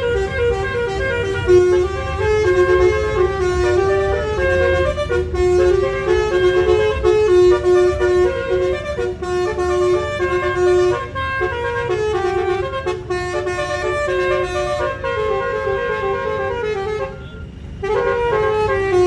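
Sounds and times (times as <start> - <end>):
bus engine running: 0.0 - 19.0
musical air horn playing a tune: 0.0 - 19.0.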